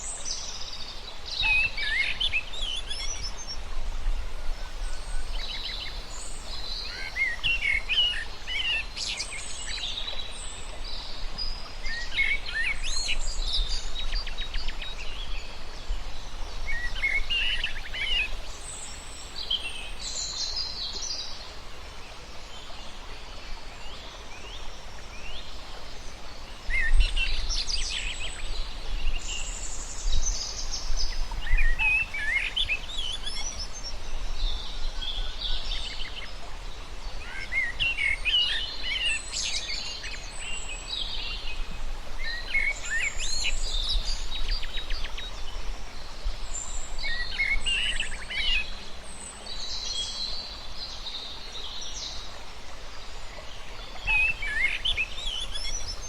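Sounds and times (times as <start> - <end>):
steady background hiss: 0.0 - 56.0.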